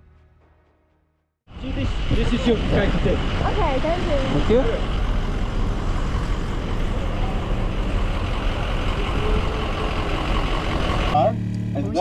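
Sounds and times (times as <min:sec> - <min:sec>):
large vehicles idling: 0:01.5 - 0:12.0.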